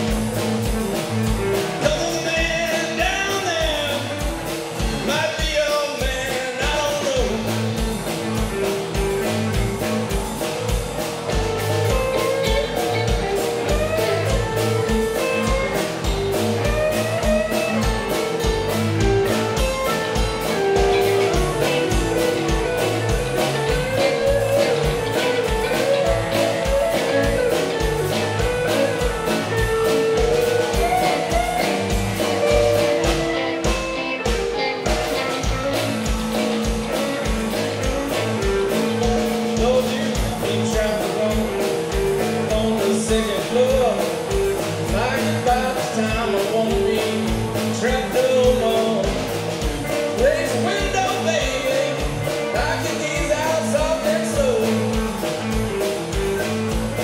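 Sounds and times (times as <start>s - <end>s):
instrumental blues-rock band: 0.0s - 57.0s.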